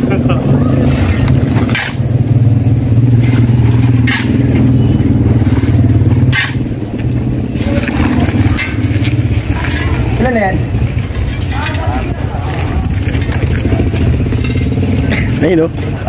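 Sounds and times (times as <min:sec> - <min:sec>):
vehicle engine running: 0:00.0 - 0:16.0
shovel scraping pavement: 0:00.8 - 0:02.3, 0:03.0 - 0:16.0.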